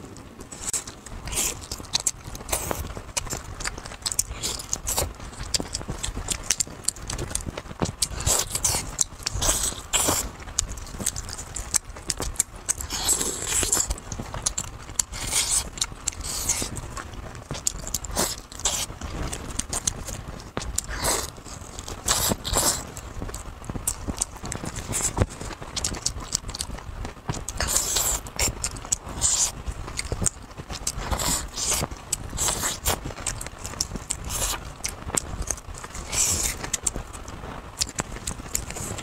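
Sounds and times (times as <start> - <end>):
chewing and mouth smacks: 0.1 - 39.0.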